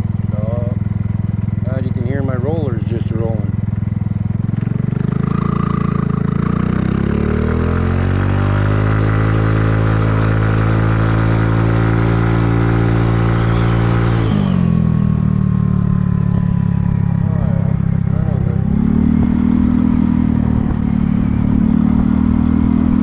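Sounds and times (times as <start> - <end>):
scooter engine accelerating: 0.0 - 23.0.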